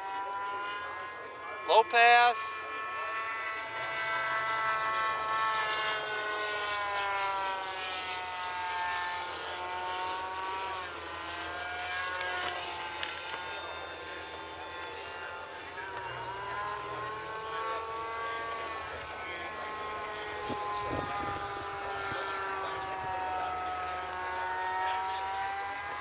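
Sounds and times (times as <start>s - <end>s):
model plane propeller whining: 0.0s - 26.0s.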